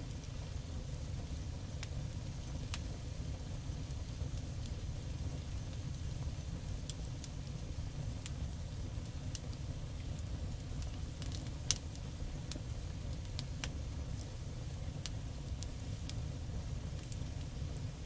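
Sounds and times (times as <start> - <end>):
oil crackling on hot griddle: 0.0 - 18.0.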